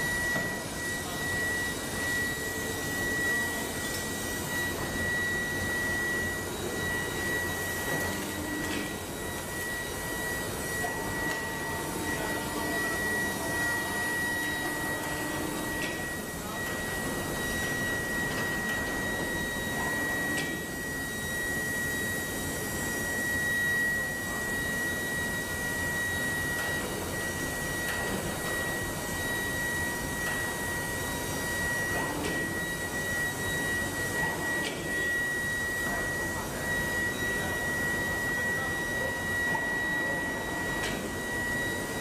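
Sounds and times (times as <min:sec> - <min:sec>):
high-pitched whine: 0:00.0 - 0:42.0.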